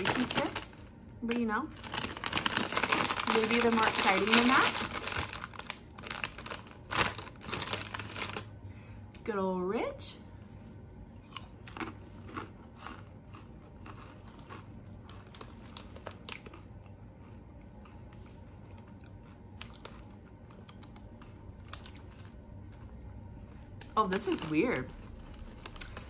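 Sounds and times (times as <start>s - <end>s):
person crunching potato chips: 0.0s - 0.9s, 1.7s - 8.5s, 11.2s - 26.0s.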